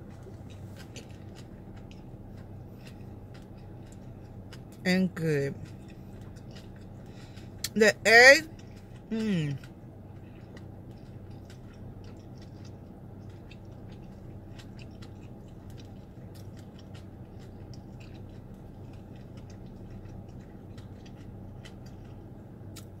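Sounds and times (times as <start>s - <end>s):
chewing and wet mouth clicks: 0.0s - 4.9s, 5.5s - 7.8s, 8.4s - 23.0s
low car cabin hum: 0.0s - 23.0s.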